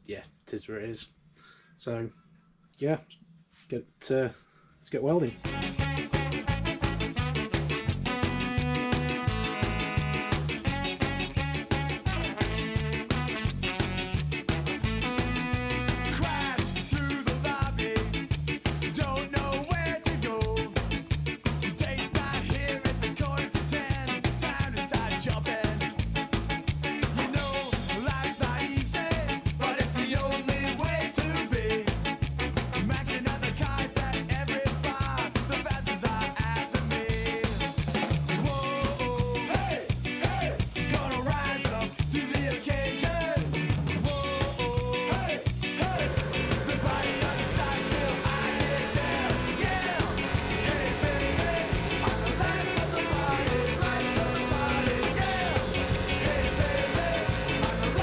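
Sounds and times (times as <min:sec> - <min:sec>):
background music with fast beat: 0:05.4 - 0:58.0.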